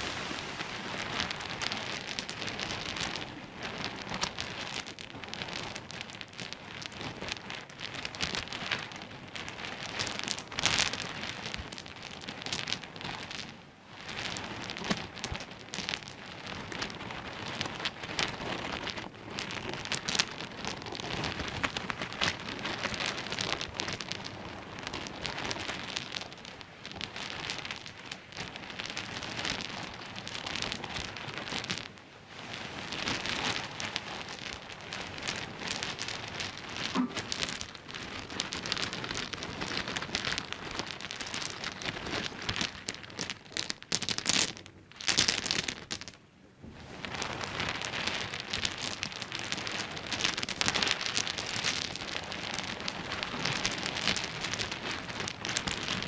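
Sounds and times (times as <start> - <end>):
pebbles clicking and clattering: 0.0 - 13.5, 14.1 - 32.0, 32.6 - 46.2, 47.1 - 56.0.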